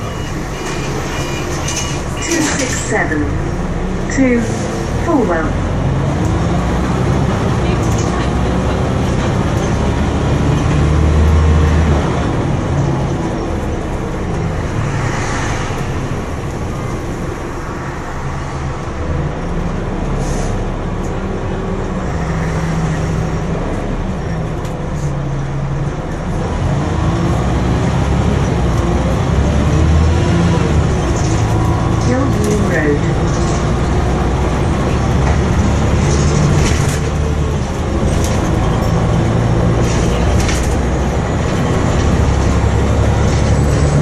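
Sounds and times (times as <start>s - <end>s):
bus diesel engine droning: 0.0s - 44.0s
road noise rumble: 0.0s - 44.0s.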